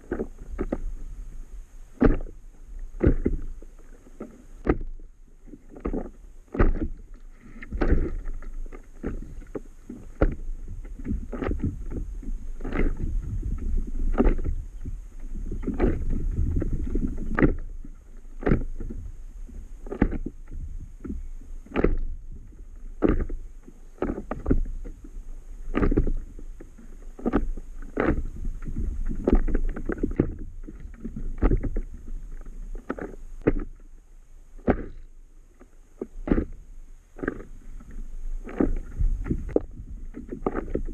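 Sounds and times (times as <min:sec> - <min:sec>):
steady low rumble: 0:00.0 - 0:40.9
waves slapping against a board: 0:02.0 - 0:14.6, 0:15.4 - 0:22.3, 0:23.0 - 0:24.9, 0:25.7 - 0:33.8, 0:34.6 - 0:35.0, 0:37.2 - 0:37.8, 0:38.4 - 0:40.9.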